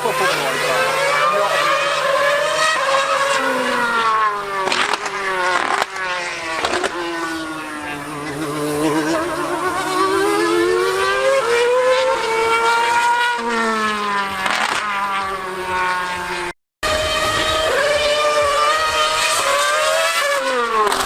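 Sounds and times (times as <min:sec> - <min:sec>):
racing engine accelerating: 0:00.0 - 0:21.0.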